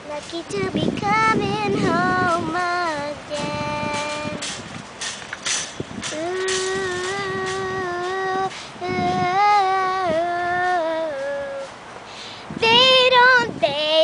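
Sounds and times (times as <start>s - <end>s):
girl singing unaccompanied: 0.0s - 4.9s, 5.8s - 14.0s.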